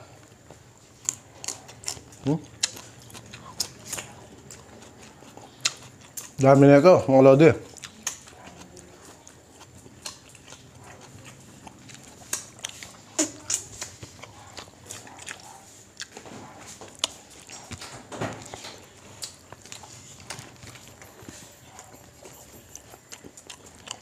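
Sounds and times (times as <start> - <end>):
people chewing: 0.0 - 24.0.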